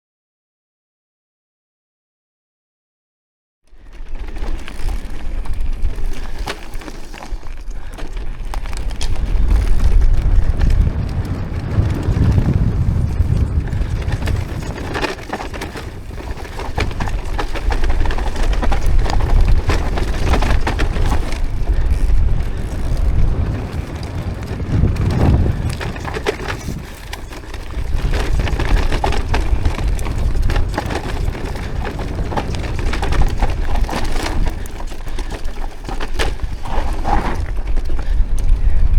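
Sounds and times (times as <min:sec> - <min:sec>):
bicycle tyres rattling over stones: 0:03.7 - 0:38.9
wind buffeting microphone: 0:07.3 - 0:38.9.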